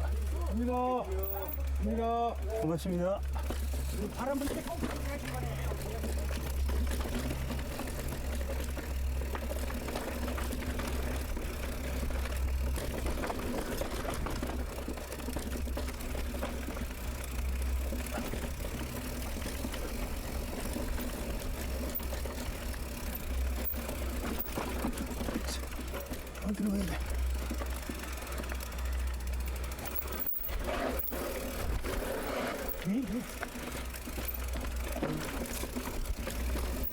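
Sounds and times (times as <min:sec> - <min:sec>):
bike riding rattle and rush: 0:00.0 - 0:36.9.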